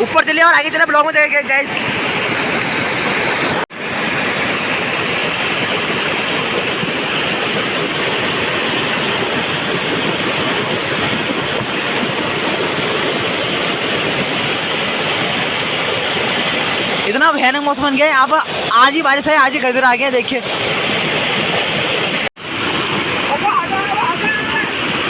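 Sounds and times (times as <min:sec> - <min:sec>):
rushing mountain torrent: 0:00.0 - 0:25.0.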